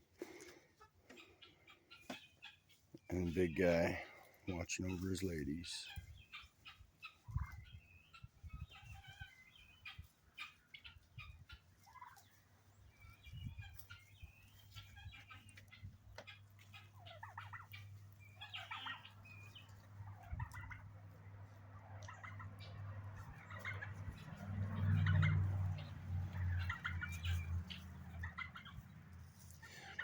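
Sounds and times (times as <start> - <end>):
chickens and turkeys clucking: 0.0 - 30.0.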